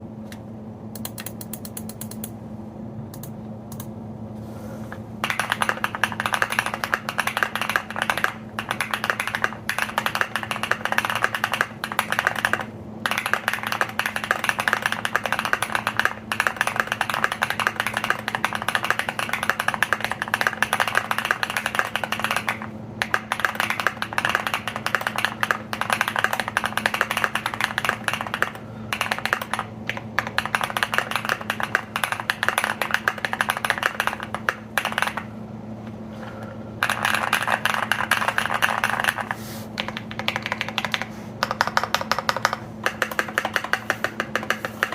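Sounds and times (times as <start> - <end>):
mechanical keyboard typing: 5.2 - 35.3, 36.8 - 44.9.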